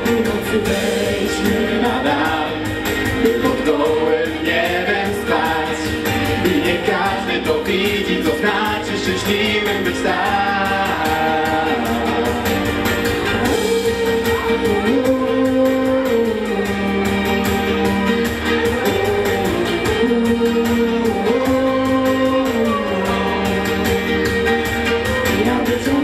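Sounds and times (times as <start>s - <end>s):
group of young people singing: 0.0s - 26.0s.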